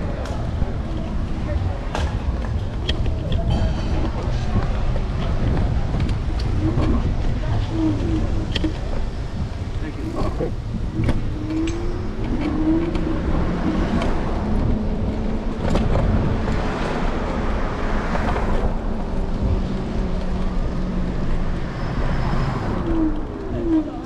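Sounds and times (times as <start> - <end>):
traffic rumble: 0.0 - 24.0
car accelerating: 4.0 - 24.0.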